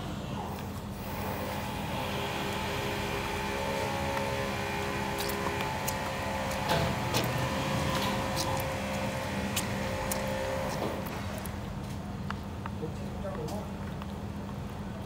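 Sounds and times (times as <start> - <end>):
steady motor hum: 0.0 - 15.0.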